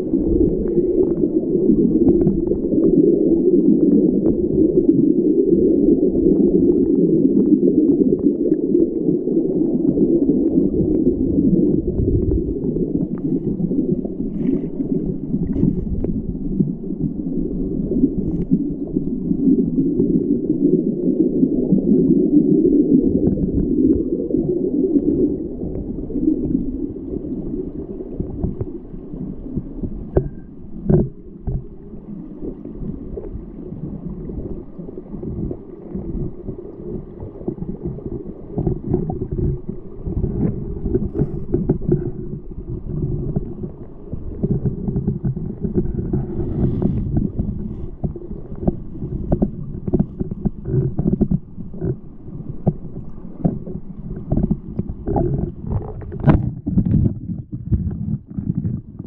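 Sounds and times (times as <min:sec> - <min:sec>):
underwater stream gurgle: 0:00.0 - 0:59.0.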